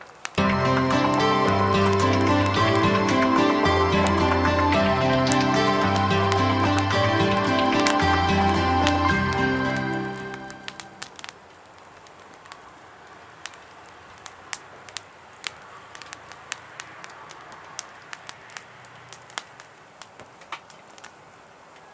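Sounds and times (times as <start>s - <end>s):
charcoal fire crackling: 0.0s - 21.2s.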